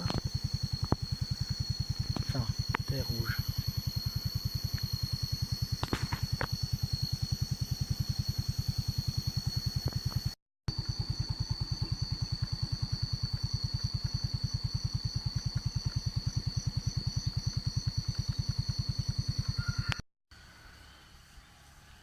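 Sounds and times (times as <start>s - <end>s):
motor scooter engine running: 0.0s - 22.0s.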